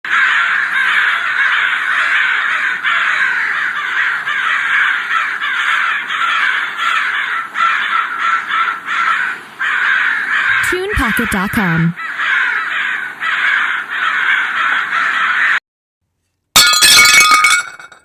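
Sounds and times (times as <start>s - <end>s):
chorus of birds calling: 0.1s - 15.6s.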